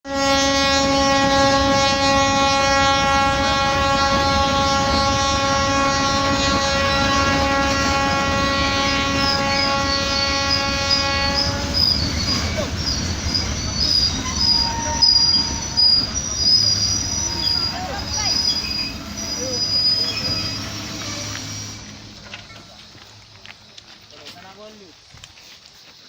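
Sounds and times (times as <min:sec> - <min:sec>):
train horn blast: 0:00.0 - 0:23.5
passing train rumble: 0:00.1 - 0:25.5.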